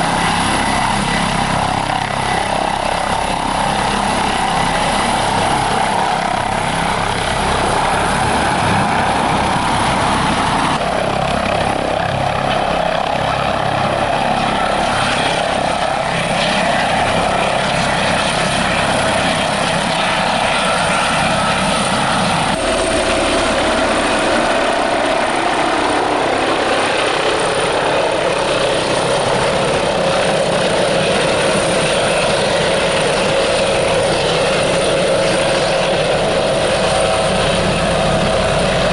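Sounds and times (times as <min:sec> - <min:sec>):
helicopter rotor and turbine noise: 0:00.0 - 0:38.9.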